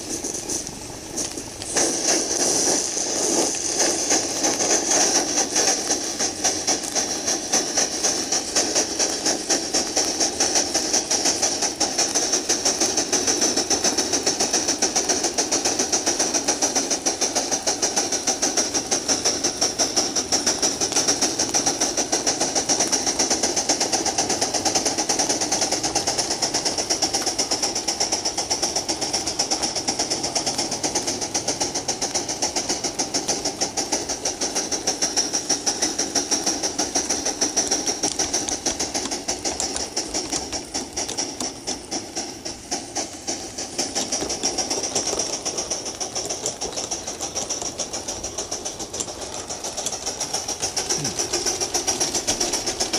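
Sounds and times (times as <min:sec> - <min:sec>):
steam hissing: 0:00.0 - 0:52.9
steam locomotive chuffing: 0:00.0 - 0:52.9.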